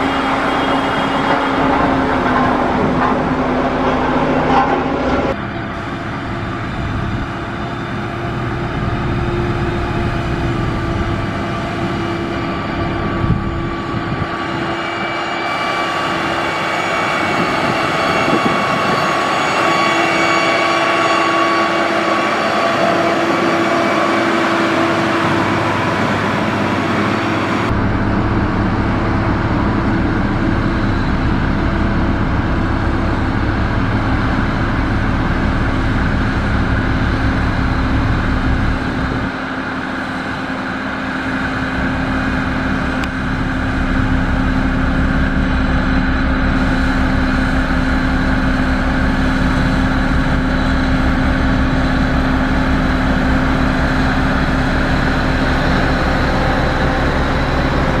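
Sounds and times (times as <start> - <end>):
diesel engines of heavy machinery: 0.0 - 58.0
pitched whine: 0.0 - 58.0.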